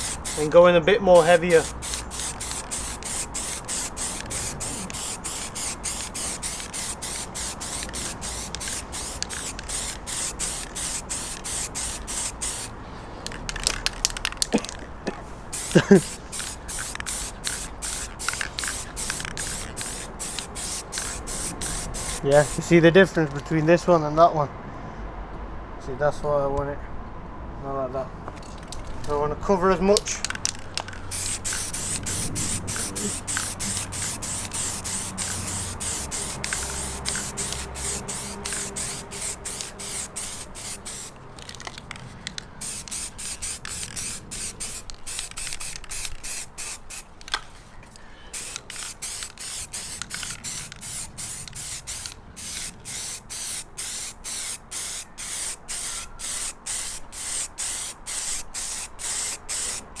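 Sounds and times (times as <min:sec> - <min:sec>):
spray paint can hissing: 0:00.0 - 0:00.6, 0:01.2 - 0:14.9, 0:15.5 - 0:22.7, 0:30.2 - 0:47.3, 0:48.3 - 1:00.0.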